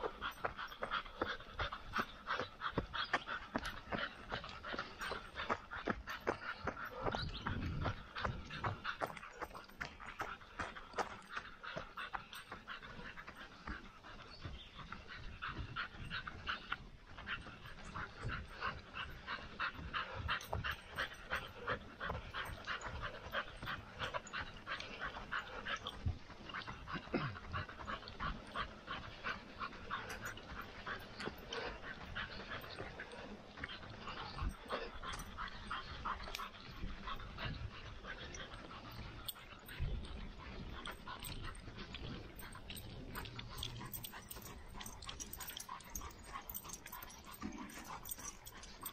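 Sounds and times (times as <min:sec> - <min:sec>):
rapid panting: 0:00.0 - 0:48.9.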